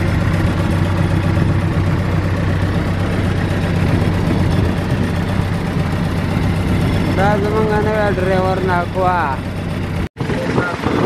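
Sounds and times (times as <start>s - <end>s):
boat engine droning: 0.0s - 11.0s
water rushing: 0.0s - 11.0s
wind: 0.0s - 11.0s.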